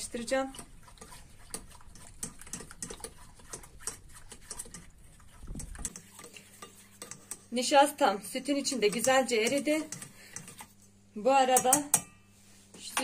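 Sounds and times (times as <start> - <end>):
whisk clicking and scraping metal bowl: 0.0 - 12.1.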